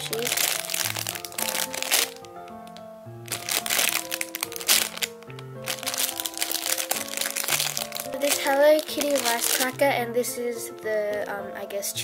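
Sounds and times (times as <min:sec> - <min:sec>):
plastic bag crinkling: 0:00.0 - 0:10.0
background music with held notes: 0:00.0 - 0:12.0.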